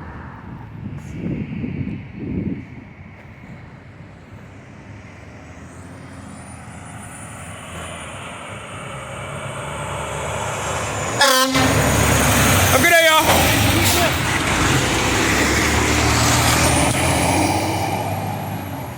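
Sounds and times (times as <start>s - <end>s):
diesel engine approaching: 0.0s - 18.9s.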